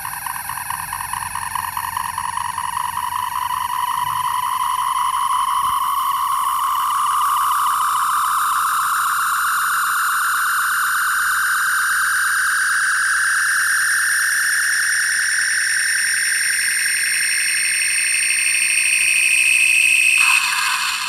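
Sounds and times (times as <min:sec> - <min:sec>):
electronic whine rising in pitch: 0:00.0 - 0:21.0.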